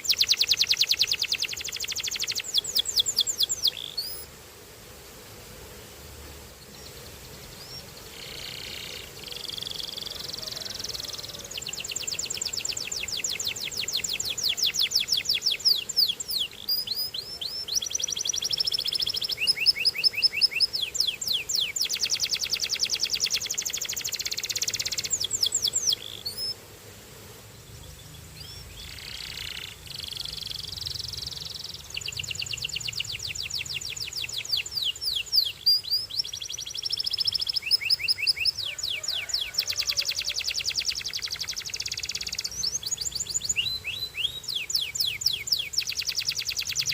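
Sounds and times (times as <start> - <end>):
canary singing trills: 0.0 - 4.3, 6.7 - 26.6, 27.8 - 46.9.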